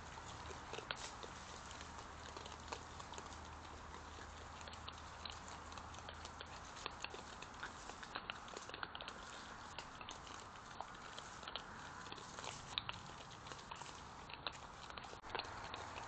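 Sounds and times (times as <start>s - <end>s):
badgers chewing and snuffling: 0.0s - 16.0s.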